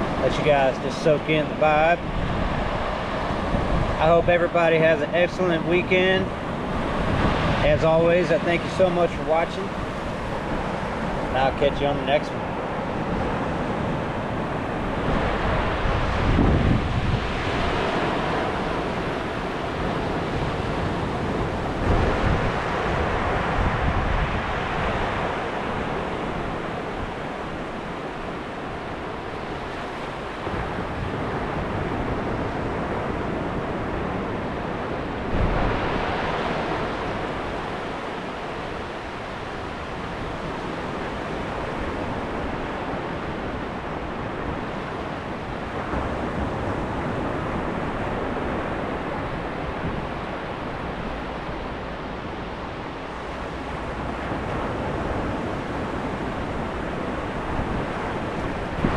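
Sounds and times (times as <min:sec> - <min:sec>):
ocean surf washing onto beach: 0:00.0 - 0:58.9
wind rumbling on microphone: 0:00.0 - 0:58.9.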